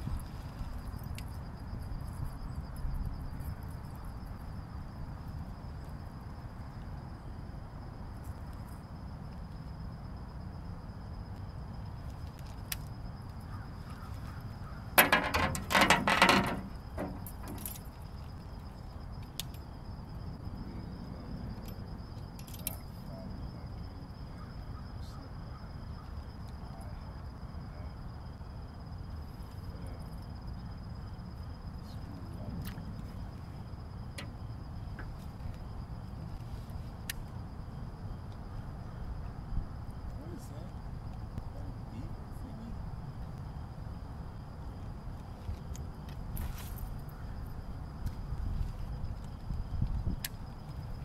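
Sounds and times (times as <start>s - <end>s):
low background noise: 0.0s - 51.0s.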